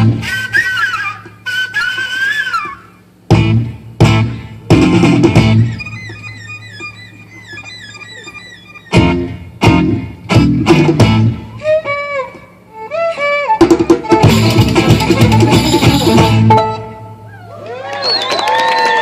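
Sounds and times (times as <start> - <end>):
gypsy-style guitar music: 0.0 - 17.2.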